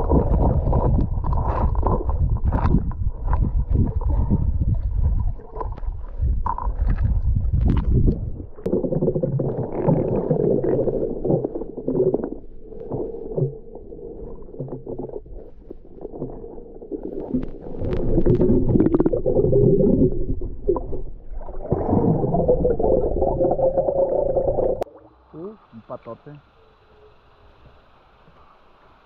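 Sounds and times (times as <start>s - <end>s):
underwater rumbling and sloshing: 0.0s - 25.0s.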